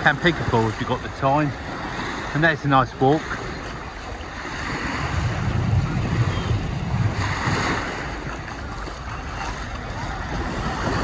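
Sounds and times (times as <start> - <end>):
waves washing onto beach: 0.0 - 11.0
wind rumbling on microphone: 0.0 - 11.0.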